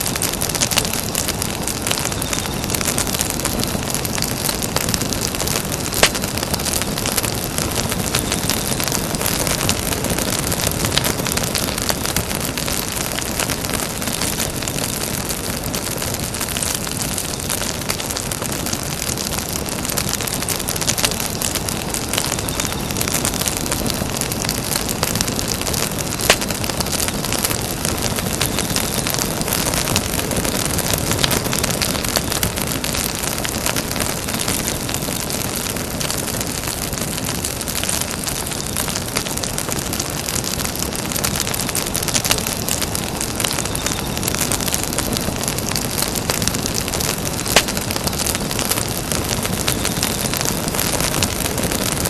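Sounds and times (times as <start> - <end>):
burning wood popping: 0.0 - 52.0
campfire hissing: 0.0 - 52.0
fine crackling of fire: 0.0 - 52.0.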